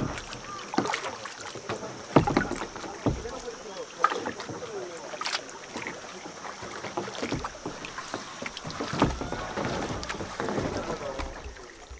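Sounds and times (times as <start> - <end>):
kayak paddle splashing: 0.0 - 11.9
water dripping: 0.0 - 11.9.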